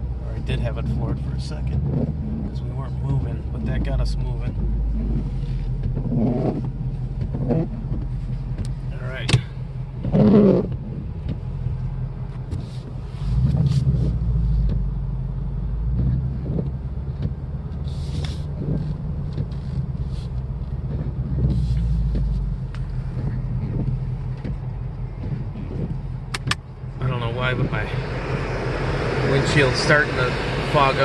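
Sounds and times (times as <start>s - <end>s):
car engine drone: 0.0s - 31.0s.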